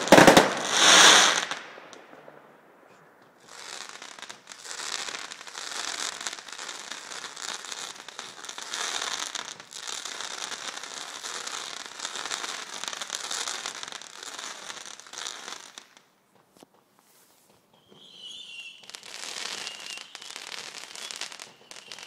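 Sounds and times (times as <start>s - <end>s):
fireworks popping and crackling: 0.0s - 22.0s.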